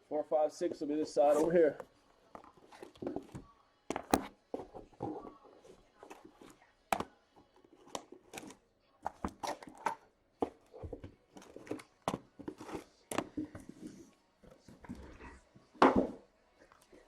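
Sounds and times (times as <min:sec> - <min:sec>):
cardboard boxes handled: 0:01.1 - 0:16.2.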